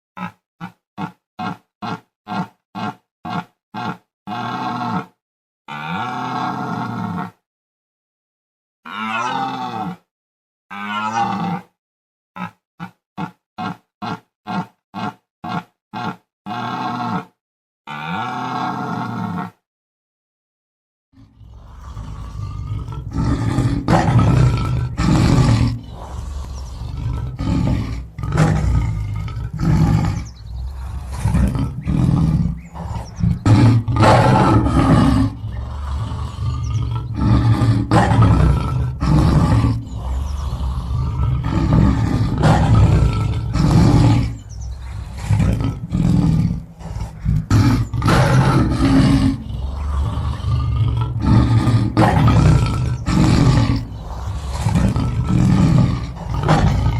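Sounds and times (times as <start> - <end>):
large animal calling loudly: 0.2 - 5.1, 8.9 - 10.0, 10.7 - 11.7, 12.4 - 17.3, 22.0 - 56.9.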